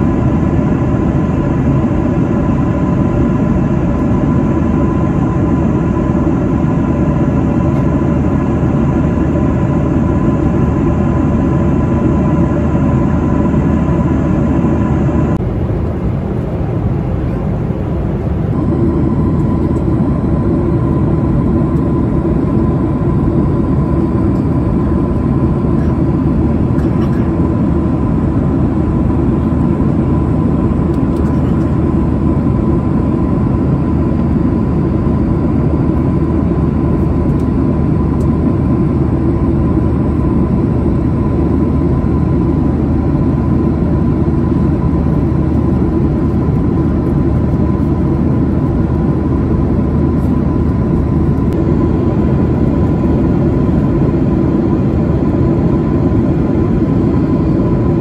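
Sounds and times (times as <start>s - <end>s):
jet engine cabin rush: 0.0s - 58.0s
thin steady whine: 0.0s - 58.0s.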